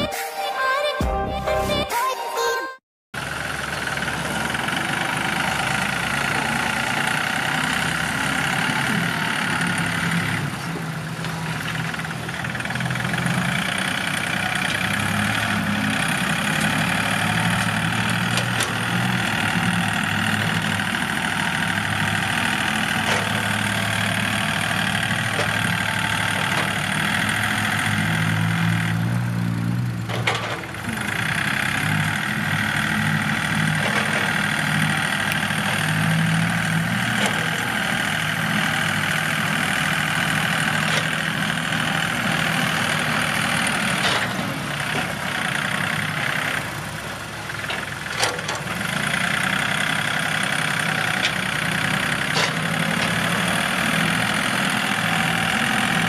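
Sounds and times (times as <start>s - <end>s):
tractor diesel engine under load: 3.2s - 56.0s.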